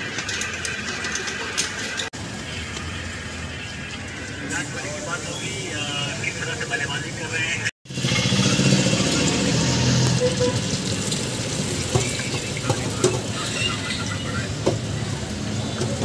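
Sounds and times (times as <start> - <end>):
food deep-frying in oil: 0.0 - 7.2, 7.9 - 16.0.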